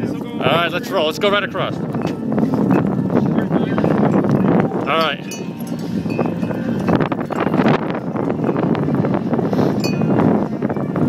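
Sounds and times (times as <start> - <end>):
wind buffeting microphone: 0.0 - 11.0
bicycle rattling: 0.9 - 11.0.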